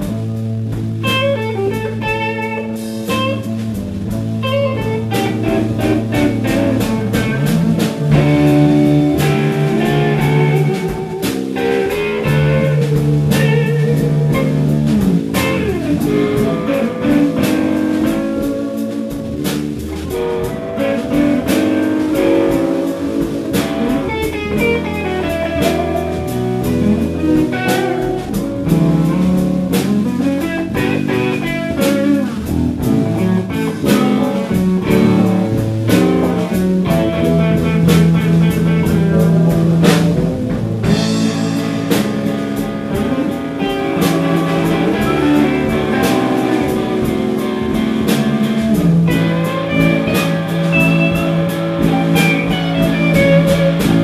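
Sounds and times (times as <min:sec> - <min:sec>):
blues band playing: 0:00.0 - 0:54.0
electric guitar lead lines: 0:00.0 - 0:54.0.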